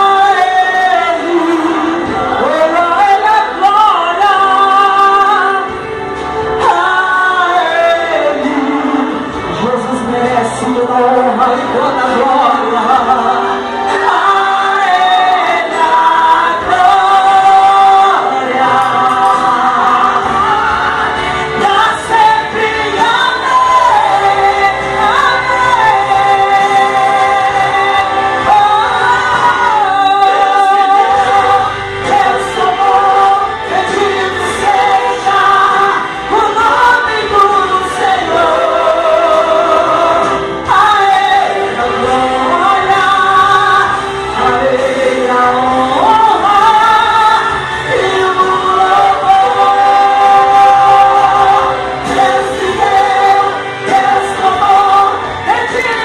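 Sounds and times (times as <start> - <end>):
sustained instrumental backing: 0.0 - 56.0
woman singing with vibrato: 0.0 - 56.0.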